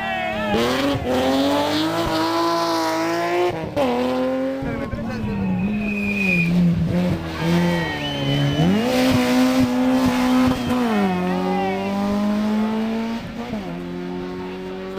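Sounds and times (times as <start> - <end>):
rally car engine revving: 0.3 - 14.9.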